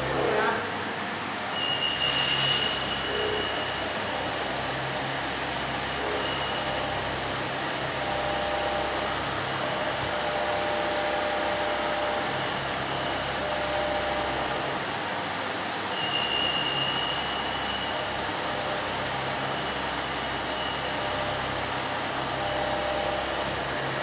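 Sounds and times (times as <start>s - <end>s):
milling machine cutting metal: 1.6s - 24.0s.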